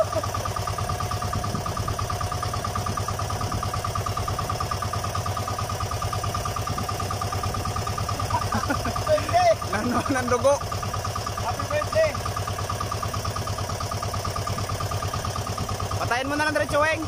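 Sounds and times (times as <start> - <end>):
small boat engine idling: 0.0 - 17.0.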